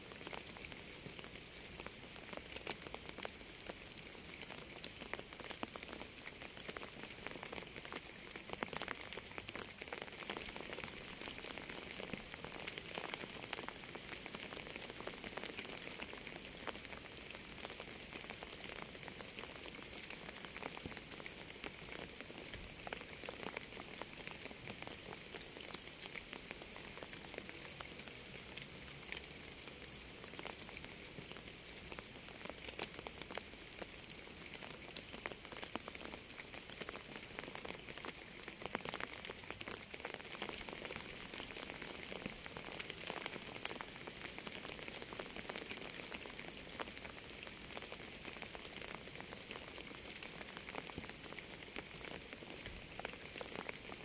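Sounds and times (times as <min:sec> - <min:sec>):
steady rain hiss: 0:00.0 - 0:54.0
raindrops ticking: 0:00.2 - 0:54.0.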